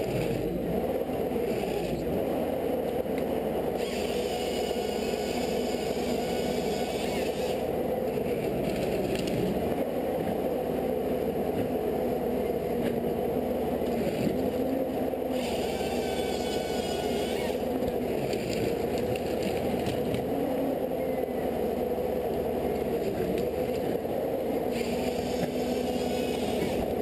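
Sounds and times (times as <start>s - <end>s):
heavy machinery engine drone: 0.0s - 27.0s
wavering whine: 0.0s - 27.0s.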